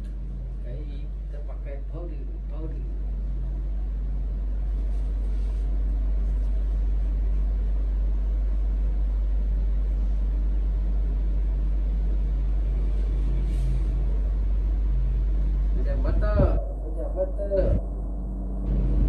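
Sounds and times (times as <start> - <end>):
low machine rumble: 0.0 - 19.0.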